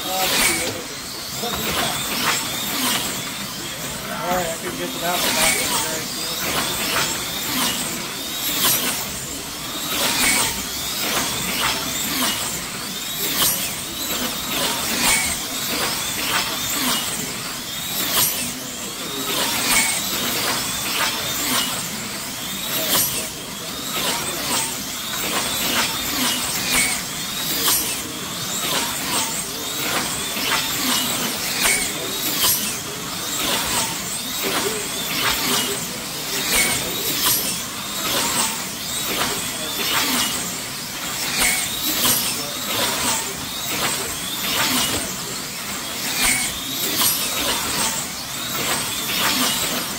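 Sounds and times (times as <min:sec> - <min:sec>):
slot car motors whining past: 0:00.0 - 0:49.9.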